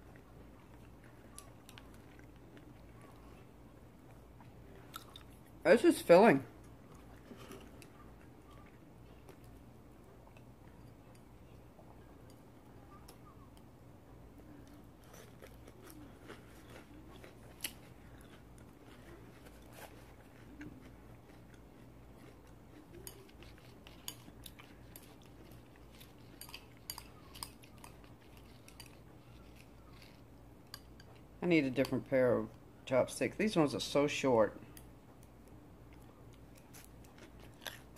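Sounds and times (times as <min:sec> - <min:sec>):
chewing: 0:00.0 - 0:05.6, 0:06.6 - 0:13.7, 0:14.4 - 0:31.3, 0:34.8 - 0:37.9
steady low hum: 0:00.0 - 0:37.9.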